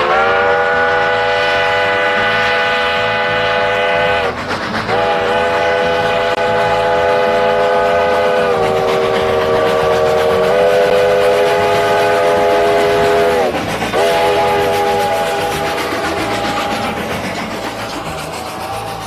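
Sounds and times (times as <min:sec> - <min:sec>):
train chime whistle: 0:00.0 - 0:19.0.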